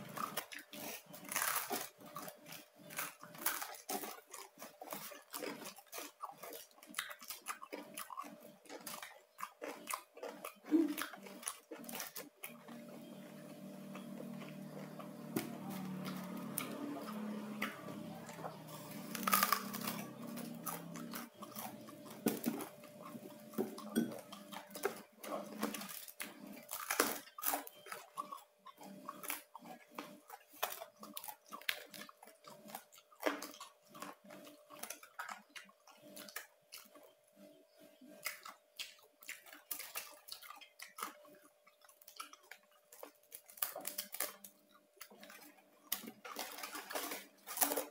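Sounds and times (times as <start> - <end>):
chewing crispy pork: 0.0 - 47.9.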